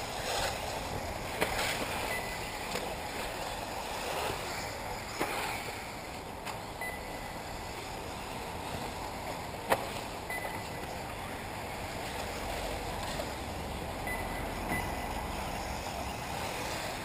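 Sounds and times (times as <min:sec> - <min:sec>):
faint motor whines: 0:00.0 - 0:17.0
rc buggy tyres and motors hissing: 0:00.0 - 0:17.0.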